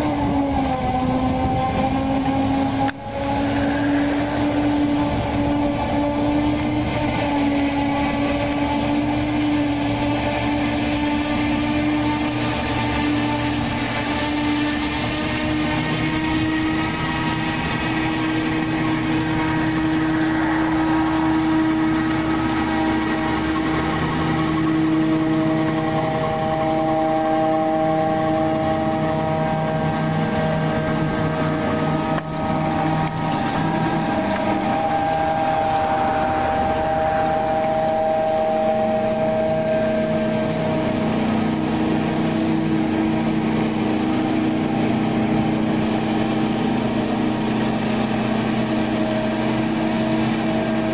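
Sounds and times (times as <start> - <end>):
dumper engine running: 0.0 - 50.9.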